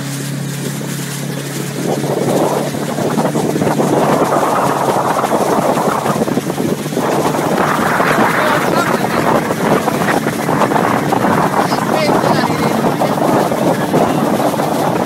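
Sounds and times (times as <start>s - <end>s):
motorboat engine hum: 0.0s - 15.0s
rushing water: 0.0s - 15.0s
wind: 0.0s - 15.0s.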